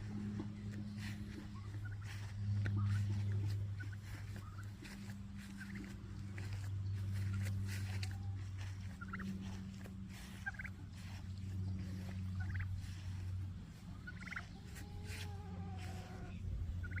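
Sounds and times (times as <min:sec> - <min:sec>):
low hum: 0:00.0 - 0:17.0
turkey poults peeping: 0:00.0 - 0:17.0.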